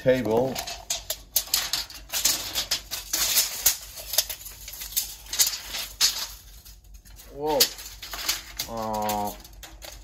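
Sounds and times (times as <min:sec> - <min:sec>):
tape measure clicking and rattling: 0:00.2 - 0:10.0.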